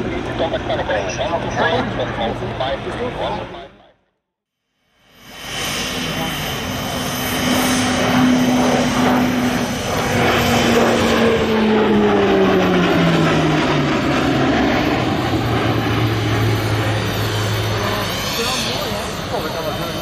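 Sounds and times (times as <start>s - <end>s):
turboprop aircraft passing overhead: 0.0s - 3.9s, 4.7s - 20.0s.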